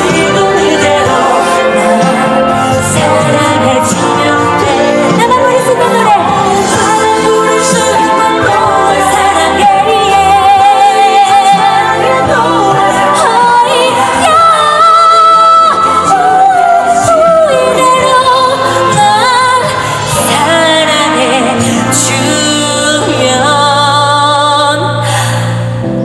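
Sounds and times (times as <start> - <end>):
musical accompaniment: 0.0 - 26.0
woman singing pop song: 0.0 - 26.0.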